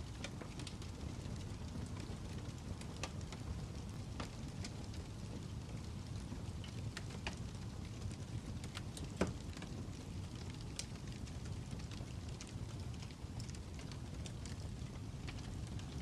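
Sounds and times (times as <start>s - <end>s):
fire snaps and pops: 0.0s - 16.0s
low rumble of flames: 0.0s - 16.0s.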